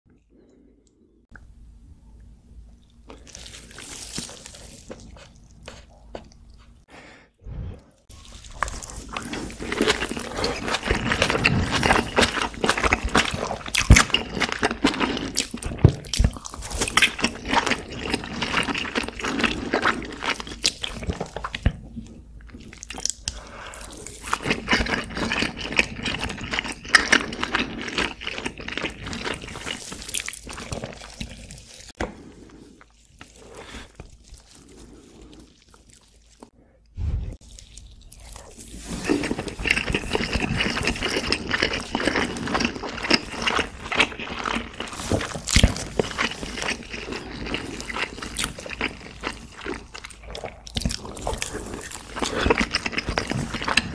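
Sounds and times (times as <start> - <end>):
wet chewing and smacking: 2.7 - 6.9, 8.0 - 32.0, 32.8 - 36.5, 37.4 - 53.9.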